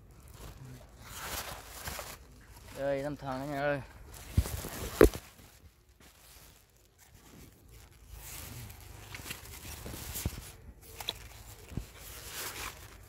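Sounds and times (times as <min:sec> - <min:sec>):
clothing rustling on microphone: 0:00.0 - 0:13.0.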